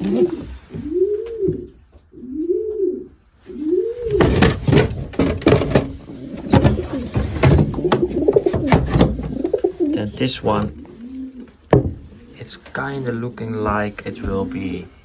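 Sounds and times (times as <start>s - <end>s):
pigeons cooing: 0.0s - 12.5s.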